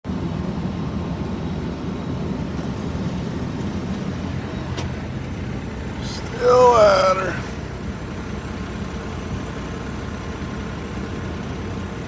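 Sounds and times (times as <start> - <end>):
heavy machine engine rumbling: 0.1 - 12.0.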